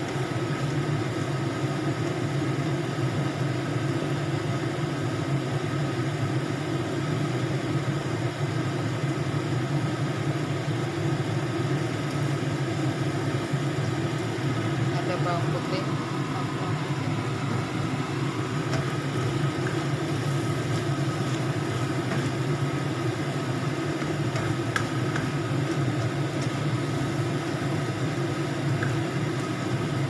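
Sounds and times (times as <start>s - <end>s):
low machine hum: 0.0s - 30.0s
sauce simmering and sizzling: 0.0s - 30.0s.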